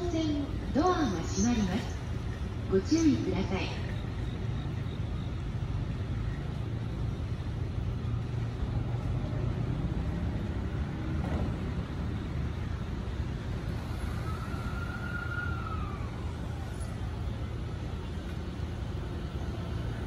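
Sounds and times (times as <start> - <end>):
electric train rumble and hum: 0.0 - 20.0
faint whine: 0.0 - 20.0.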